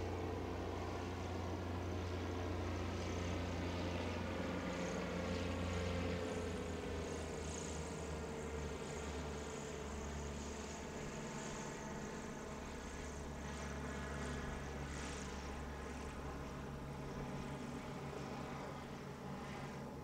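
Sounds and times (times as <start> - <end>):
airship propeller engines droning: 0.0 - 20.0.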